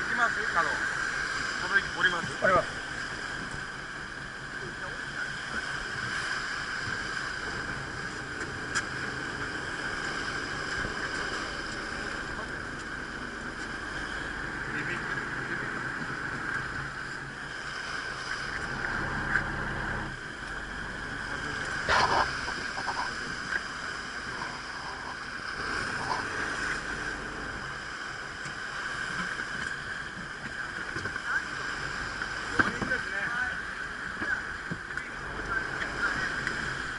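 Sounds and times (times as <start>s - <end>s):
boat engine whine and rumble: 0.0s - 36.9s.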